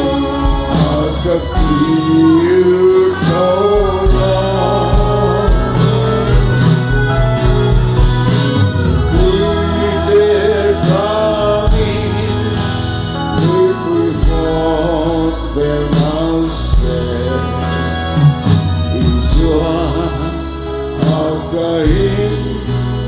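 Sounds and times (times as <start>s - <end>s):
electric guitars: 0.0s - 23.0s
keyboards: 0.0s - 23.0s
person singing melody: 0.0s - 23.0s
sustained bass notes: 0.0s - 23.0s.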